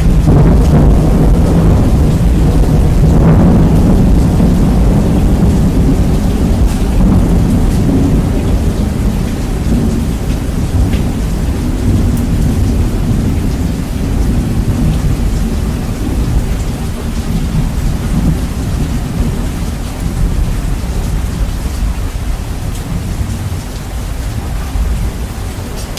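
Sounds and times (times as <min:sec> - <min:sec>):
heavy rain: 0:00.0 - 0:25.9
thunder rolling: 0:00.0 - 0:25.9.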